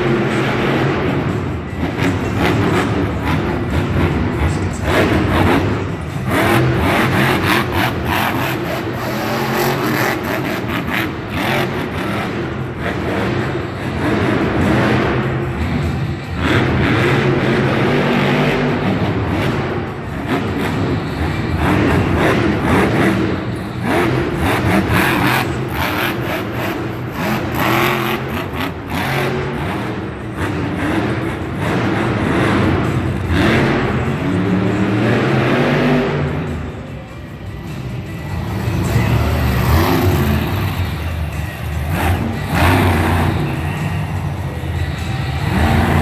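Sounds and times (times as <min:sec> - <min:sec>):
monster truck engine revving: 0:00.0 - 0:46.0.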